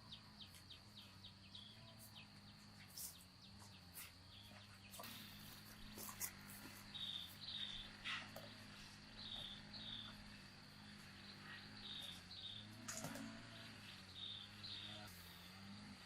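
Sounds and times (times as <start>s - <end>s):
faint high chirping: 0.0s - 15.8s.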